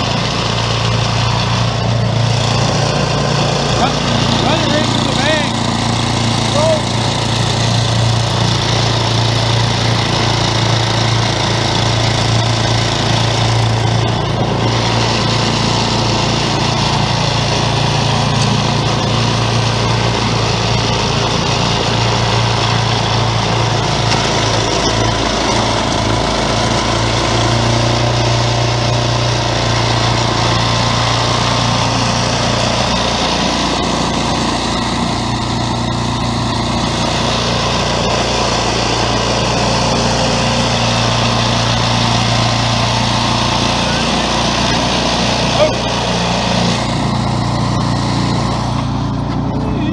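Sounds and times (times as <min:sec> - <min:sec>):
auger throwing snow: 0:00.0 - 0:49.9
snowblower engine running: 0:00.0 - 0:49.9.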